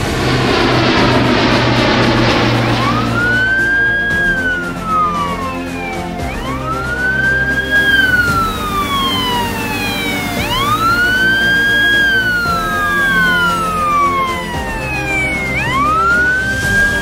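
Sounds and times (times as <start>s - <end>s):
background music: 0.0s - 17.0s
fire engine siren wailing: 0.0s - 17.0s.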